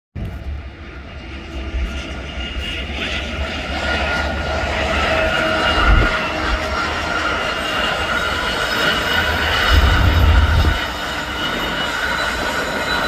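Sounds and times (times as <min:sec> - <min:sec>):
diesel locomotives rumbling: 0:00.2 - 0:13.0
high whine: 0:00.2 - 0:13.0.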